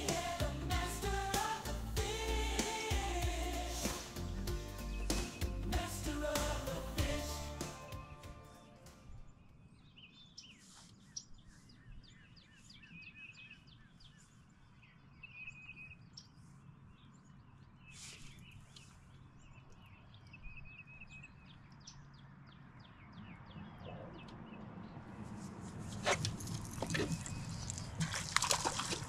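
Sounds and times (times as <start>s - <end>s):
birds chirping: 0.0s - 25.2s, 26.7s - 28.0s.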